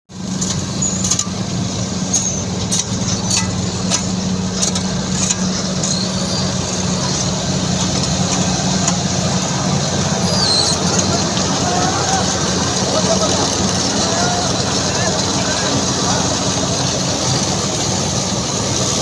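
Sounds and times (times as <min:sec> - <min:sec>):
heavy vehicle engine humming: 0:00.1 - 0:19.0.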